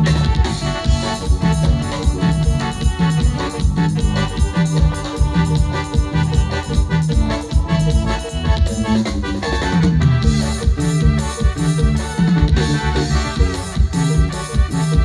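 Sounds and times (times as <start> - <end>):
latin dance music: 0.0 - 15.0
organ-like keyboard: 0.0 - 15.0.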